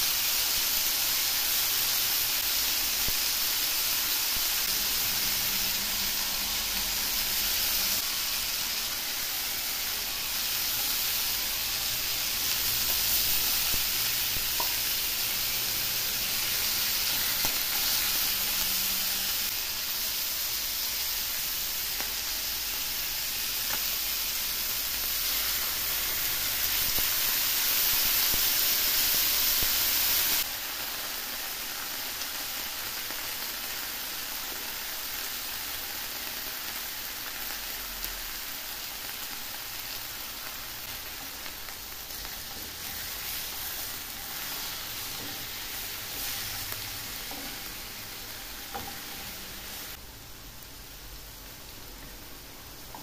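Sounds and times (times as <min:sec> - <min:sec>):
pork chops sizzling in pan: 0:00.0 - 0:53.0.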